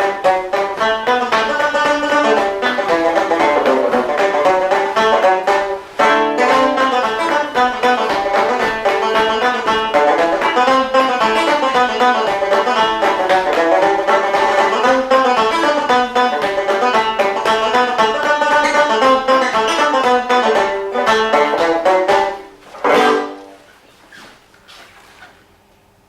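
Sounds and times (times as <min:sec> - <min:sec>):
rapidly picked string music: 0:00.0 - 0:24.0.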